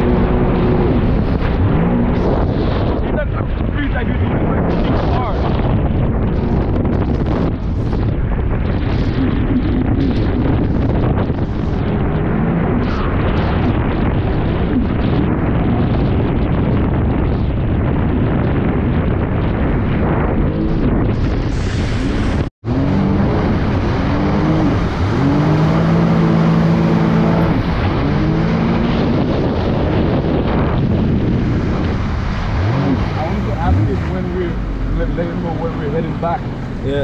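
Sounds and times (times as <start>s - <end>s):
water rushing: 0.0s - 15.9s, 19.7s - 37.0s
jet ski engine running: 0.0s - 37.0s
wind buffeting microphone: 0.0s - 37.0s.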